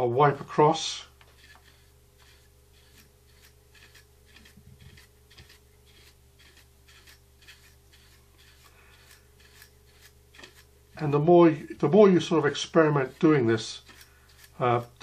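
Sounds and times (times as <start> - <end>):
low steady hum: 0.0 - 15.0
brush bristle strokes: 1.0 - 15.0.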